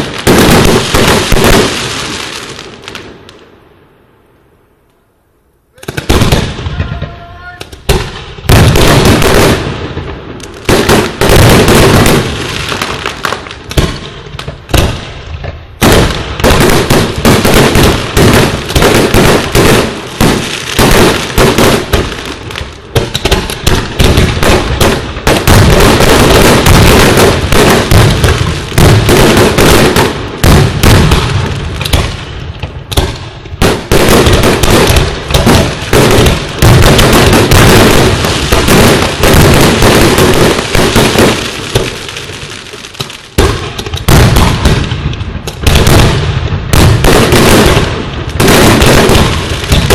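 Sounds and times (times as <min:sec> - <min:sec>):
fireworks bangs and crackles: 0:00.0 - 0:04.2, 0:05.7 - 0:49.9.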